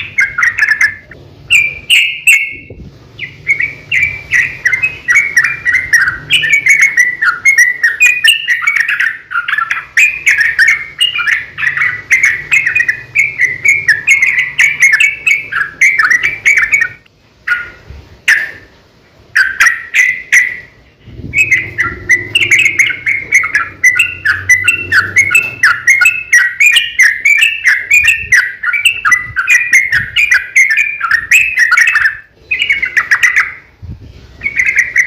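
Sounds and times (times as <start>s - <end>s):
bulbul singing rapid chirps: 0.0s - 33.8s.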